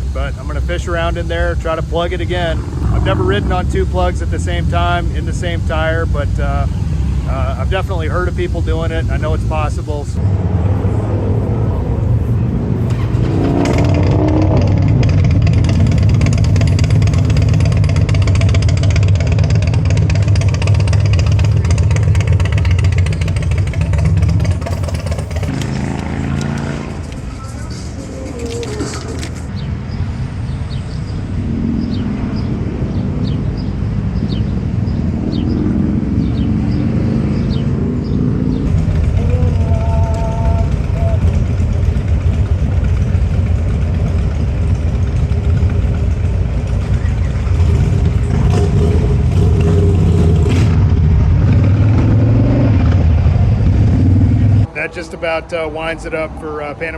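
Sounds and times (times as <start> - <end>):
motorcycle engine running: 0.0 - 29.7, 31.9 - 54.9.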